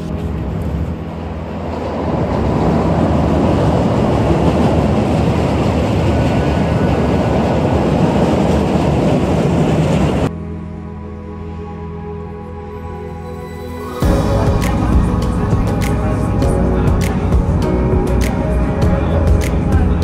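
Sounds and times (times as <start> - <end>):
train rumbling and rattling: 0.0 - 10.3, 14.0 - 20.0.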